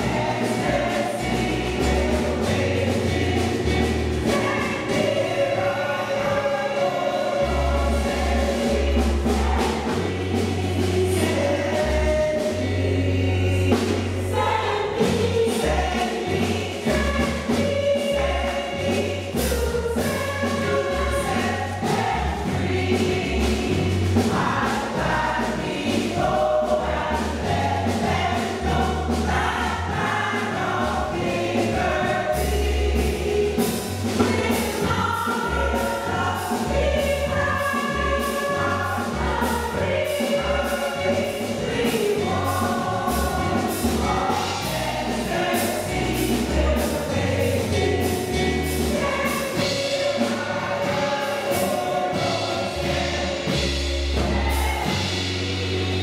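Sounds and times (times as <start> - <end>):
low bass notes: 0.0 - 49.8
gospel choir singing in harmony: 0.0 - 56.0.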